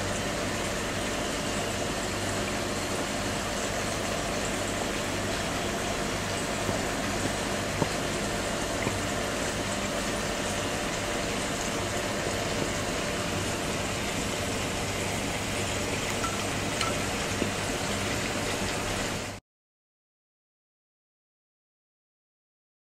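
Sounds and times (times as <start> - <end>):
aquarium filter bubbling: 0.0 - 19.4.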